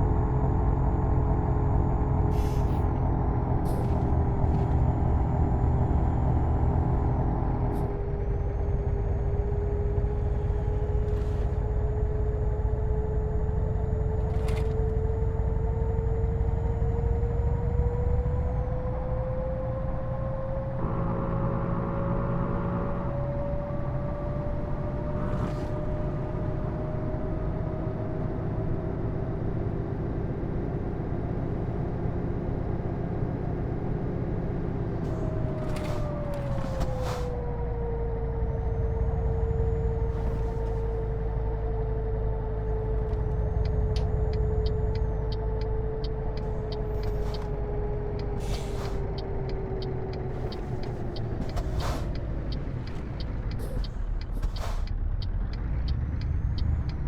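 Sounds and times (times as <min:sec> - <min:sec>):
diesel truck engine rumble: 0:00.0 - 0:57.0
engine whine: 0:00.0 - 0:57.0.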